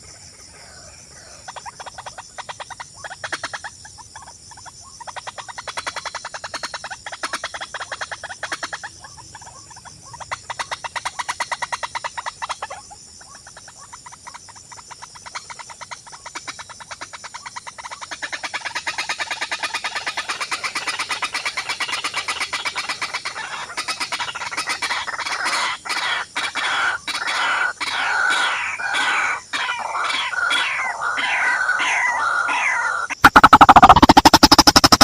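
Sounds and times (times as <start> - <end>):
rapid pulsed animal calls: 0.0 - 35.0.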